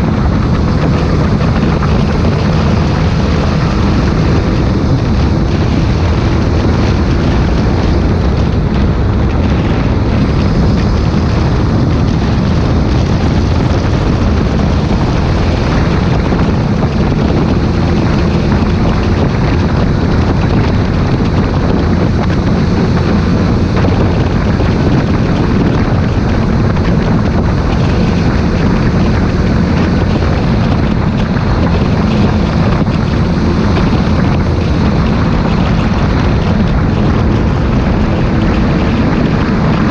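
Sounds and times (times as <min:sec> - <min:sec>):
tractor diesel engine running: 0:00.0 - 0:39.9
wind noise on microphone: 0:00.0 - 0:39.9.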